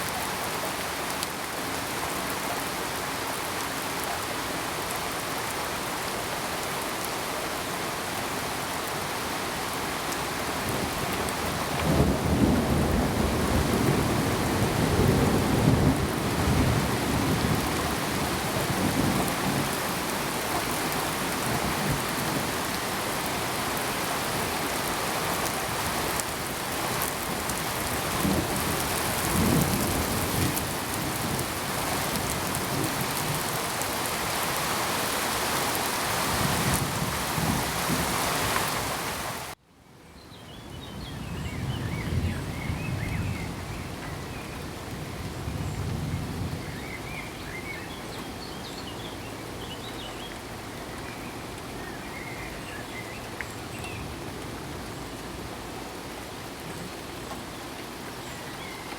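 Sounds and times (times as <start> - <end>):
steady rain hissing: 0.0 - 39.6, 40.7 - 58.9.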